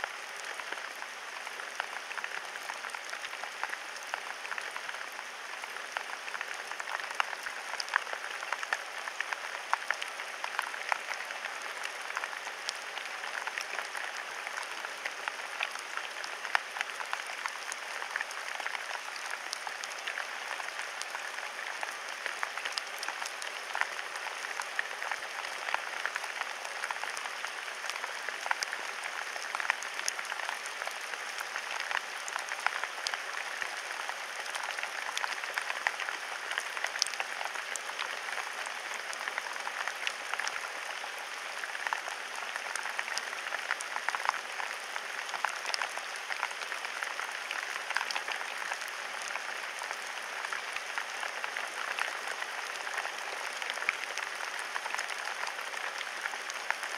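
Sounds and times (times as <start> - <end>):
rain on leaves: 0.0 - 56.9.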